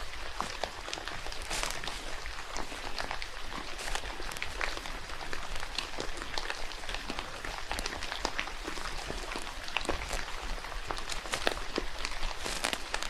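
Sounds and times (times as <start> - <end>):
rain hiss in forest: 0.0 - 13.0
raindrops ticking close by: 0.0 - 13.0.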